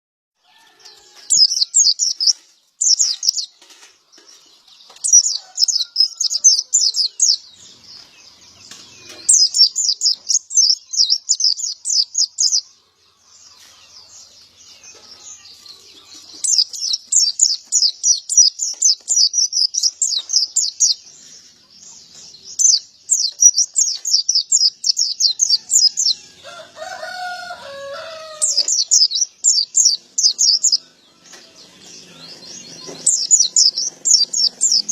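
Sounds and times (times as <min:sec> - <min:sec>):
bird high twittering song: 0:00.4 - 0:34.9.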